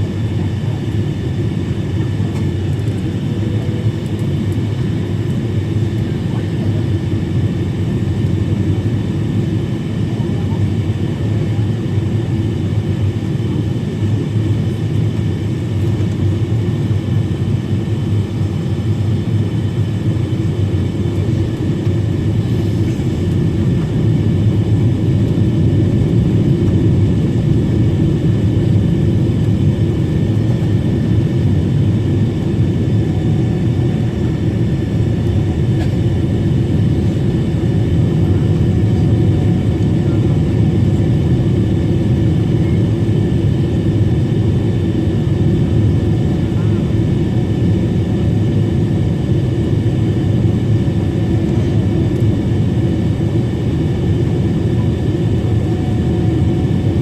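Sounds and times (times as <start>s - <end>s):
low rumble of airflow and engines: 0.0s - 57.0s.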